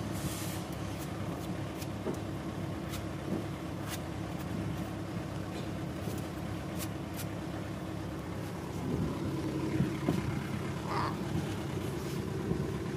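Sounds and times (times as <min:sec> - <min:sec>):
low engine hum: 0:00.0 - 0:12.9.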